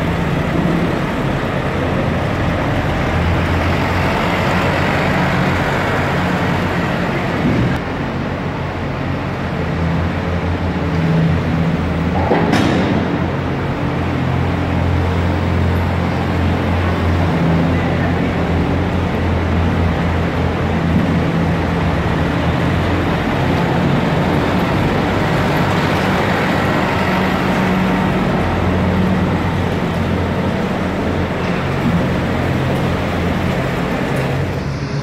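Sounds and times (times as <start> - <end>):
engine low drone: 0.0 - 35.0.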